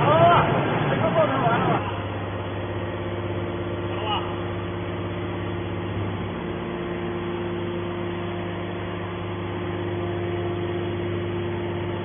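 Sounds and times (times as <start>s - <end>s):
hydraulic power unit humming: 0.0s - 12.0s.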